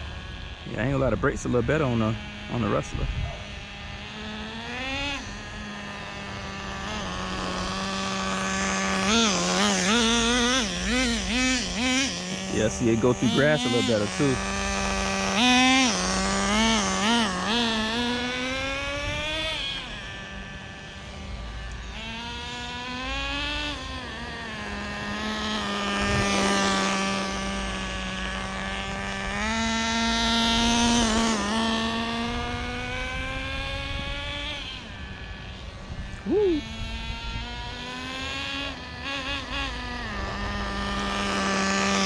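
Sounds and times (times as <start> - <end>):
small nitro engine revving: 0.0 - 42.0.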